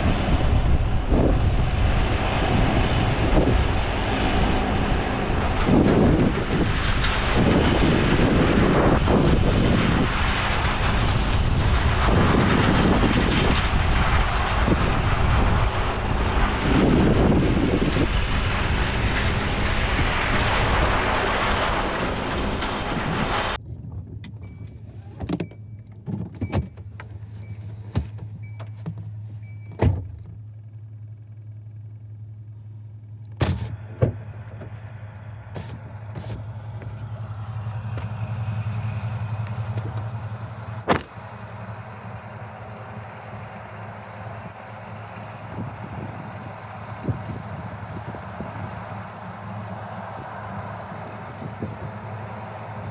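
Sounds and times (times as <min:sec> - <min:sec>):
vehicle rushing noise: 0:00.0 - 0:23.6, 0:33.4 - 0:52.9
low steady hum: 0:00.0 - 0:52.9.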